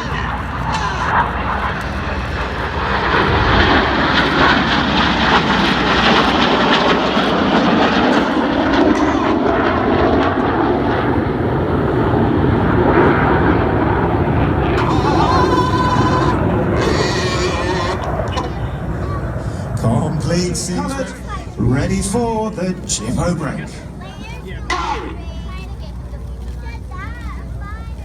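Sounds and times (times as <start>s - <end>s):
jet aircraft roar: 0.0s - 28.0s.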